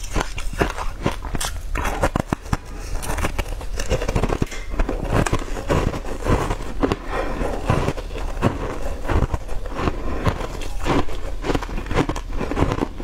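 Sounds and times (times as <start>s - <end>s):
chewing and crunching candy: 0.0s - 13.0s.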